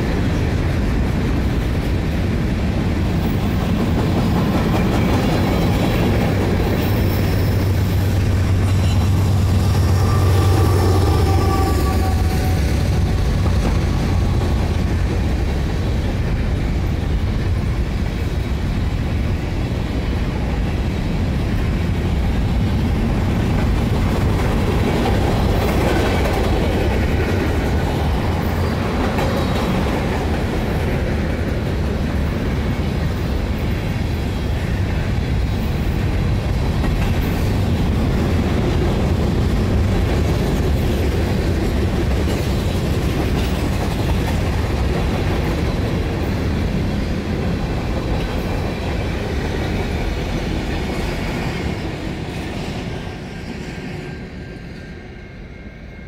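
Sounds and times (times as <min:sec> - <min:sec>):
steel train wheels on rails: 0:00.0 - 0:56.0.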